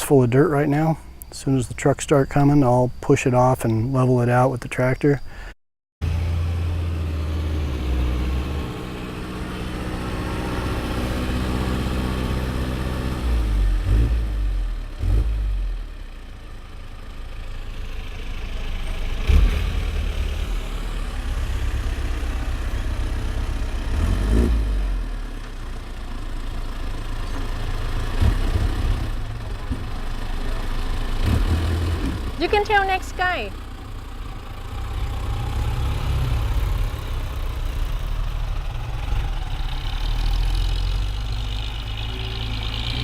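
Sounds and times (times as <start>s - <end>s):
heavy vehicle engine running: 6.0s - 43.0s.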